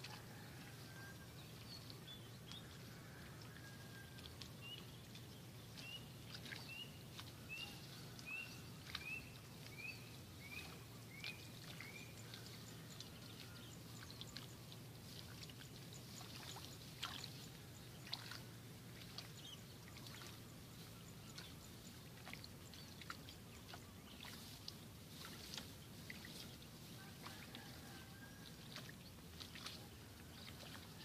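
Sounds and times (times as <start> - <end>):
low steady hum: 0.0 - 31.0
rustling of plants: 3.9 - 31.0.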